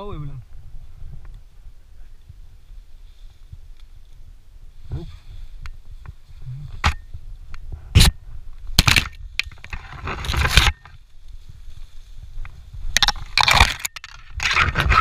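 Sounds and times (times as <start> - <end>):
leaves rustling and scraping: 0.0 - 15.0
wind rumble on microphone: 0.0 - 15.0.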